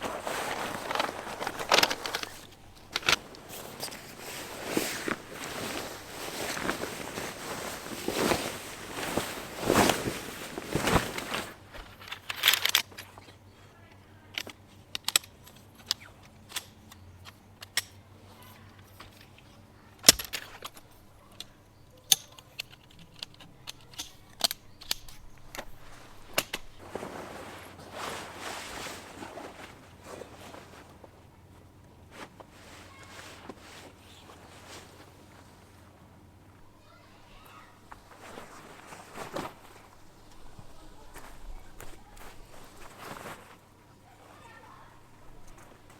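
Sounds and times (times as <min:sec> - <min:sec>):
rustling shuffling steps: 0:00.0 - 0:14.9, 0:22.6 - 0:45.9.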